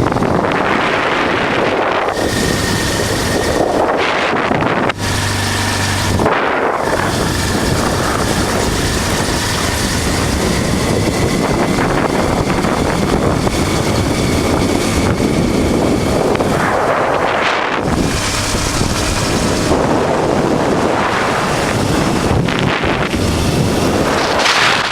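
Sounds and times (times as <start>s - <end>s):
motorcycle engine running: 0.0s - 24.9s
wind buffeting microphone: 0.0s - 24.9s.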